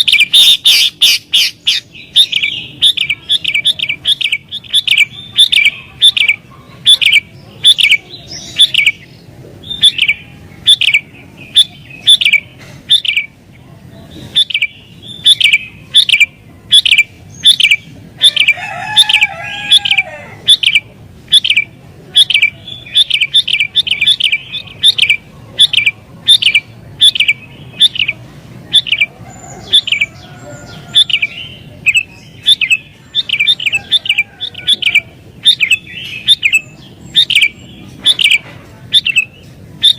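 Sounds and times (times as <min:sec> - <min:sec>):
bird sharp chirps: 0:00.0 - 0:13.4, 0:14.1 - 0:39.9.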